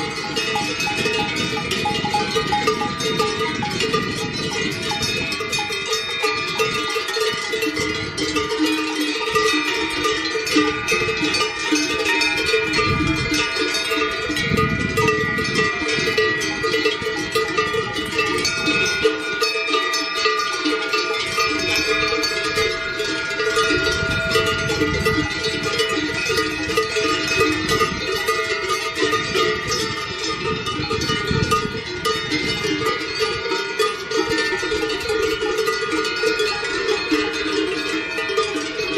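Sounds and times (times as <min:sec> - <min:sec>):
cowbells clanging: 0:00.0 - 0:38.9.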